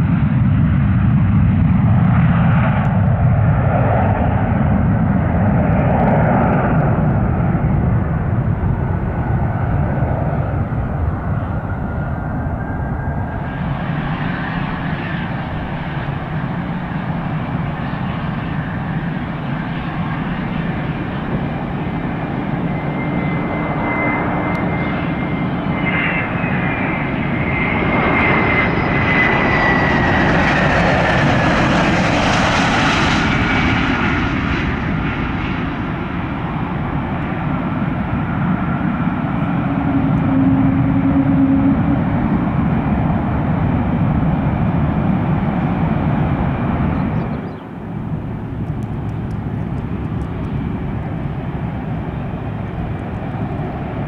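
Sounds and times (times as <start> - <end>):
jet engines roaring: 0.0 - 54.0
falling jet whine: 4.1 - 54.0.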